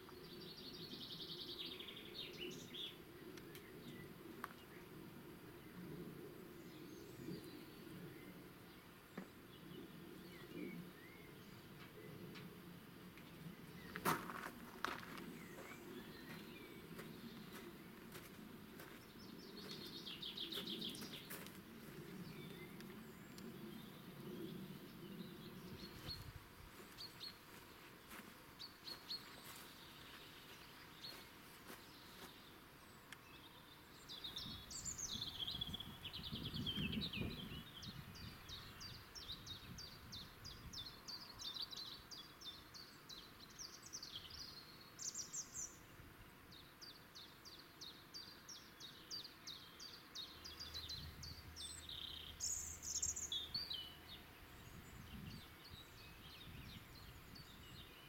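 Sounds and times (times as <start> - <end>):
small songbirds singing: 0.0 - 12.5, 13.2 - 58.0.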